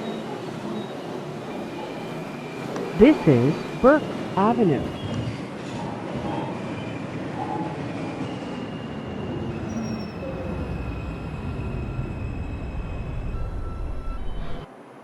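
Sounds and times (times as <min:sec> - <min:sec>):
train wheels rumbling on rails: 0:00.0 - 0:14.7
wheels and brakes squealing: 0:00.0 - 0:14.7.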